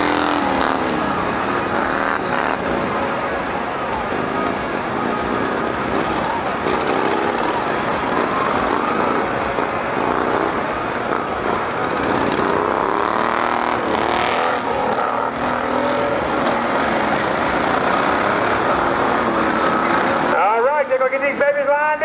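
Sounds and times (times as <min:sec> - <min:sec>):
lawnmower engines revving: 0:00.0 - 0:21.1.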